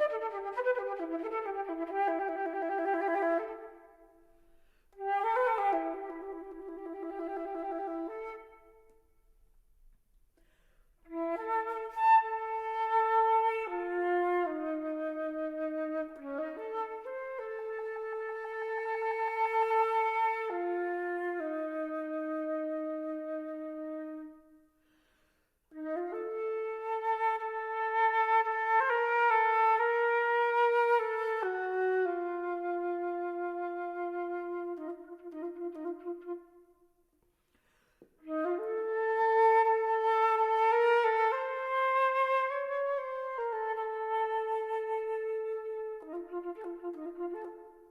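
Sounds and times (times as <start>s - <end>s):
solo flute playing: 0.0s - 9.4s, 10.6s - 24.8s, 25.7s - 37.0s, 38.1s - 47.9s.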